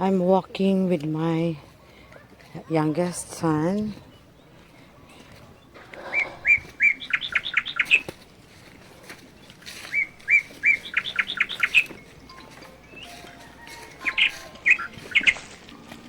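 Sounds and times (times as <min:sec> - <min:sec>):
bird singing: 0:00.0 - 0:15.5.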